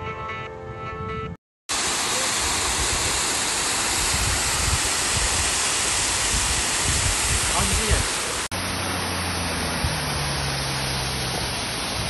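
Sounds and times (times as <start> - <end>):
water rushing over weir: 1.7 - 12.0.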